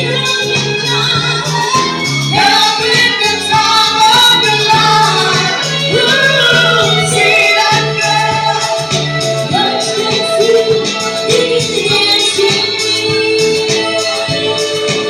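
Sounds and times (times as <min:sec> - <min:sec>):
backing music with pulsing bass: 0:00.0 - 0:15.0
woman singing into microphone: 0:00.0 - 0:15.0.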